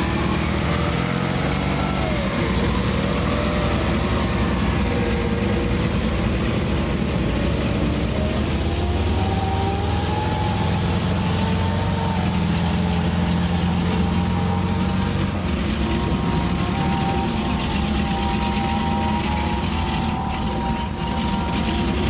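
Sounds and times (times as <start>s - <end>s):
tank engine droning: 0.0s - 22.0s.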